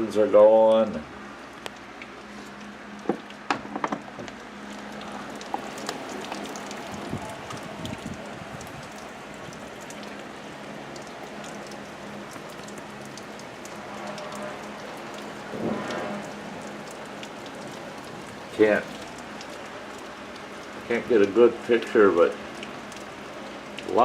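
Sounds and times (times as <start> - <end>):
faint steady hum: 0.0 - 24.0
heavy rain pouring: 1.2 - 24.0
raindrops ticking on window glass: 1.6 - 24.0.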